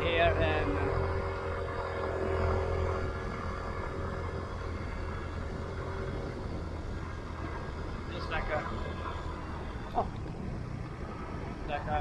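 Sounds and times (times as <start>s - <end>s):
faint steady whine: 0.0s - 12.0s
road and wind noise: 0.0s - 12.0s
vehicle engine hum: 0.0s - 12.0s.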